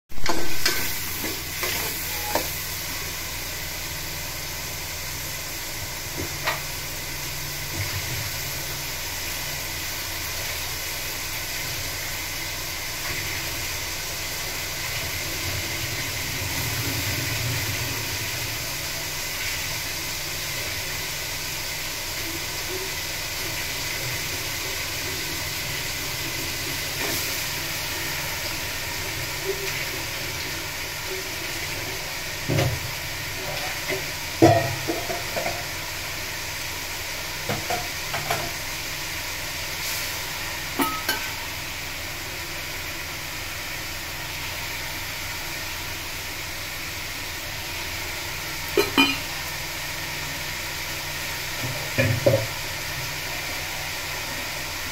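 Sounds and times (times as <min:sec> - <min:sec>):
potatoes sizzling in hot oil: 0:00.1 - 0:54.9.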